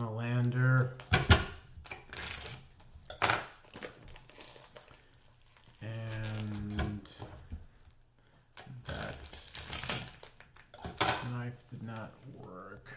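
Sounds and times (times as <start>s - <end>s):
low steady hum: 0.0s - 12.9s
plastic wrap crinkling: 0.0s - 12.9s.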